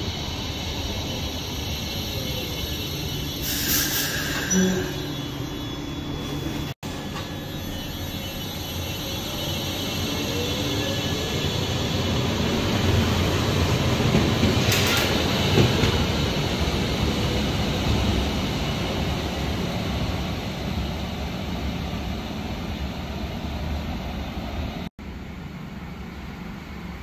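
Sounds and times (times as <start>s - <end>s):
tram electric drive whining: 0.0s - 27.0s
tram running noise: 0.0s - 27.0s.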